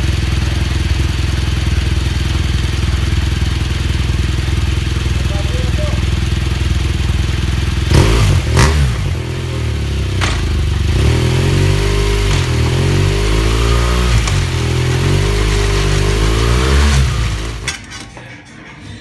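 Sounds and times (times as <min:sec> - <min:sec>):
motorcycle engine revving: 0:00.0 - 0:18.1.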